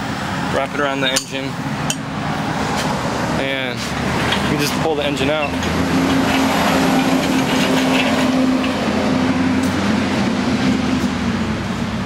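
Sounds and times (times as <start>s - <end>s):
bus engine humming: 0.0s - 12.0s
engine hoist rolling on concrete: 0.6s - 12.0s.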